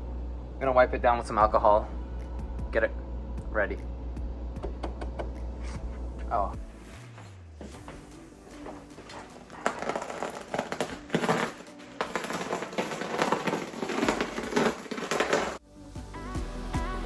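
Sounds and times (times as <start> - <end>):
background music: 1.4 - 17.0.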